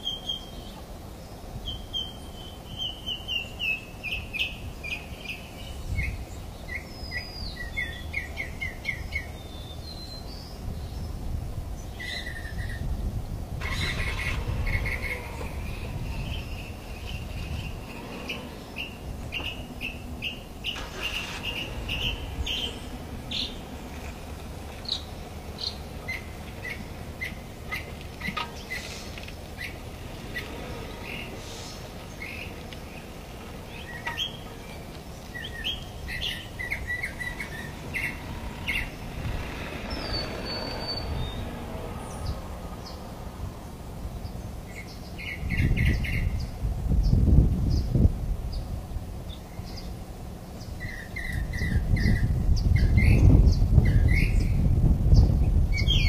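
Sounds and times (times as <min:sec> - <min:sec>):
birds chirping: 0:00.0 - 0:56.0
low steady rumble: 0:00.0 - 0:56.0.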